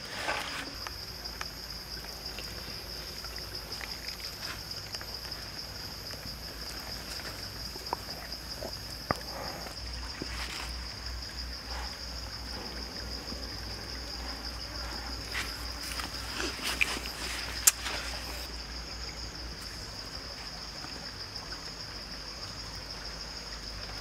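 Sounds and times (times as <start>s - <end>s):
outdoor background hush: 0.0s - 21.3s
insect drone: 0.0s - 24.0s.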